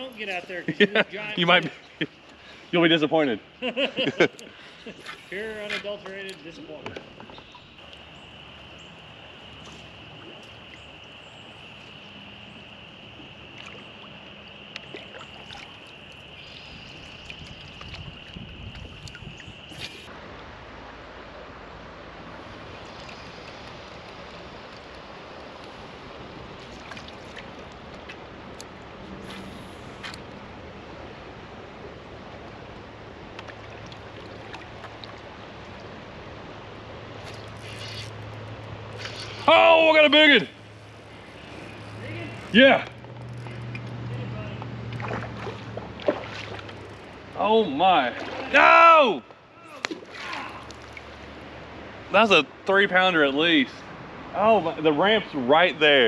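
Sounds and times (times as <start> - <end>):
flowing creek water: 0.0 - 56.0.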